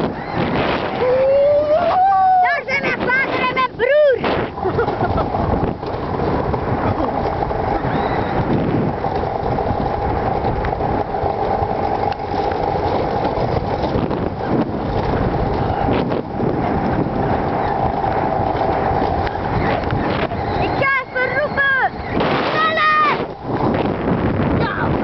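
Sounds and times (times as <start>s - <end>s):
steady whine: 0.0s - 25.0s
wheels rumbling and rattling on rails: 0.0s - 25.0s.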